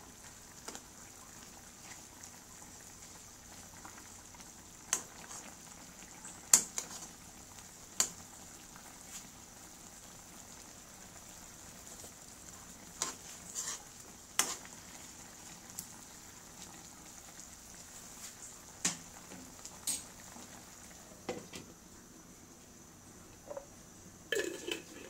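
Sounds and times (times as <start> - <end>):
food sizzling in a wok: 0.0 - 25.0.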